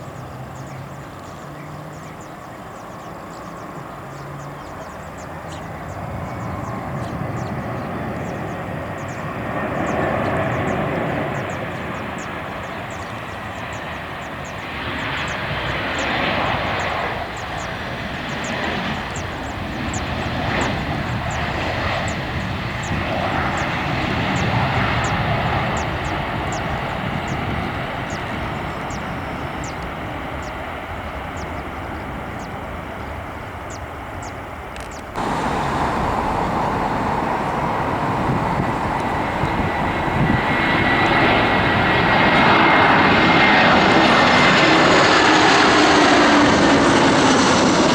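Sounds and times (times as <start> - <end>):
aircraft engine noise: 0.0 - 47.9
airliner engines: 0.0 - 47.9.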